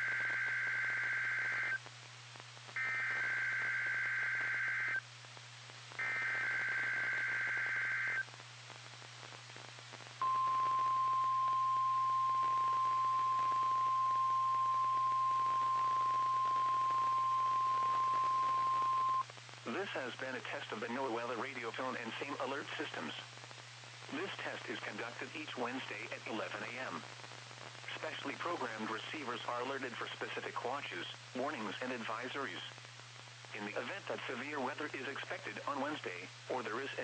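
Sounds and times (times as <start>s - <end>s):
radio hiss: 0.0s - 37.0s.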